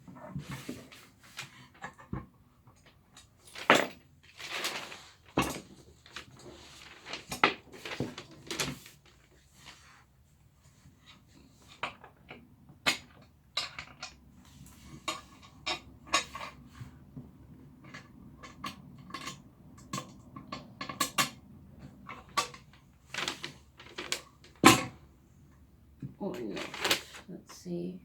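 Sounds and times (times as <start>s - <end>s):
chair parts clicking and knocking: 0.0s - 9.8s, 11.0s - 25.1s, 26.0s - 27.2s.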